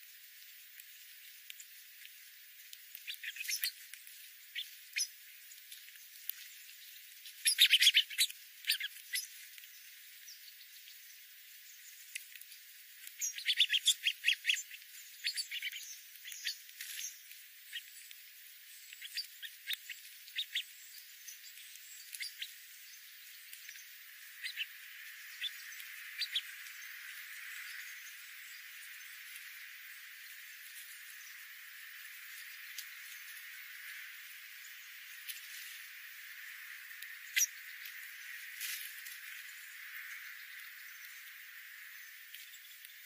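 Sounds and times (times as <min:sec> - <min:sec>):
bird chirps: 0:02.9 - 0:05.3, 0:05.9 - 0:12.4, 0:13.0 - 0:43.0.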